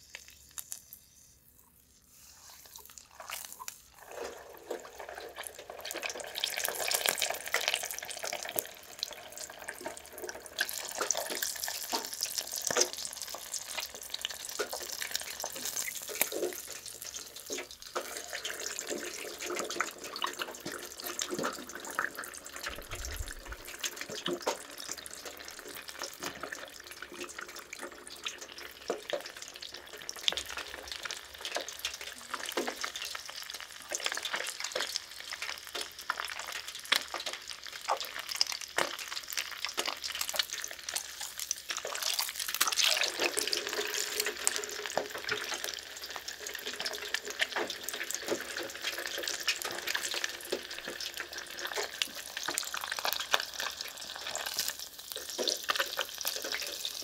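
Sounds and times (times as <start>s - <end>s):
batter frying in hot oil: 0.0s - 57.0s.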